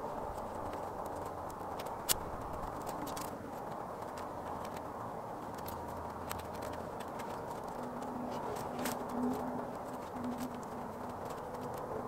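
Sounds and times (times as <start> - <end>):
twigs clicking and crackling: 0.0 - 12.0.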